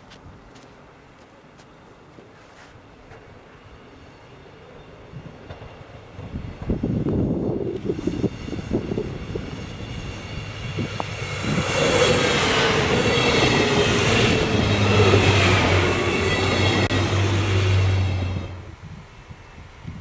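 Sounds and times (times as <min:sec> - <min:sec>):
train wheels rushing past: 0:02.2 - 0:20.0.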